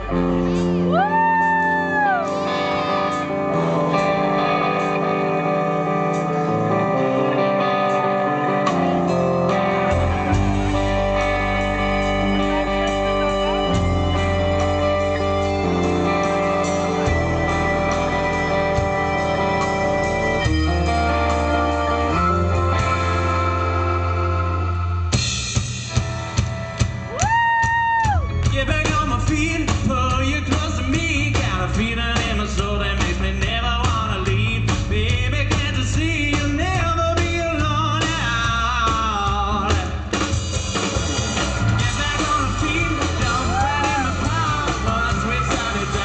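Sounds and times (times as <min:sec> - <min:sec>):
electric guitar: 0:00.0 - 0:46.0
live rock band playing: 0:00.0 - 0:46.0.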